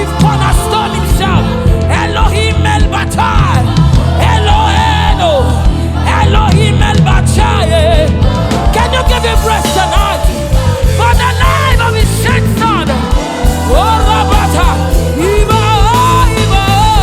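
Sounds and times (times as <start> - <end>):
drums and bass beat: 0.0 - 17.0
gospel band playing: 0.0 - 17.0
lead singer singing: 0.0 - 17.0.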